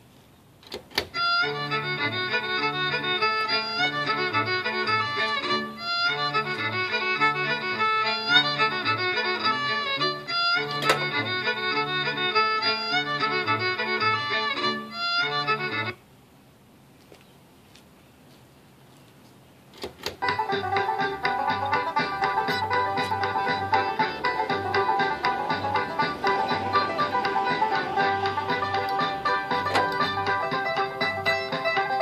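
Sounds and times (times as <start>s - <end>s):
fiddle tune from speaker: 1.0s - 16.0s, 20.2s - 32.0s.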